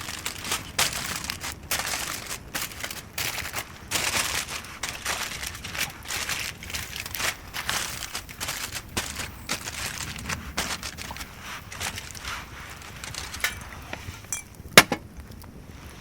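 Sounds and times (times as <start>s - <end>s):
crinkling and rustling: 0.0s - 16.0s.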